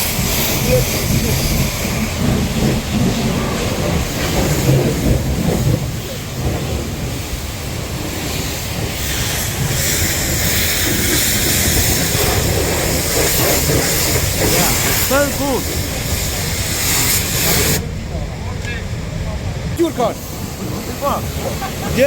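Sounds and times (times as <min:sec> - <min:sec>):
pressure washer spray hissing: 0:00.0 - 0:06.3, 0:07.1 - 0:17.8, 0:19.8 - 0:22.0.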